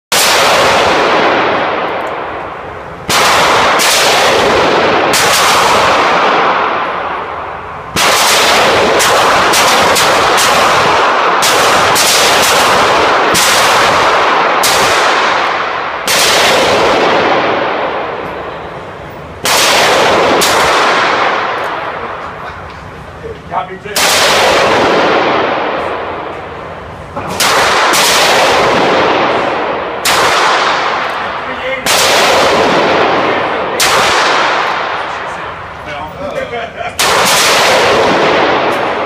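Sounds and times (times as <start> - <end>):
gunshots echoing indoors: 0.1 - 23.0, 23.9 - 35.8, 37.0 - 39.0.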